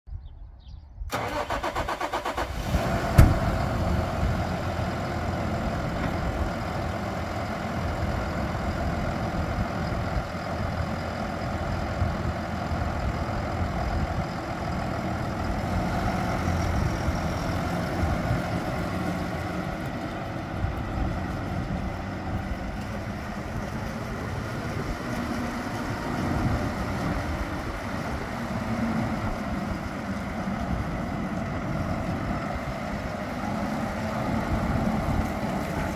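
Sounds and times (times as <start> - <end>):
tractor diesel engine idling: 1.1 - 35.9.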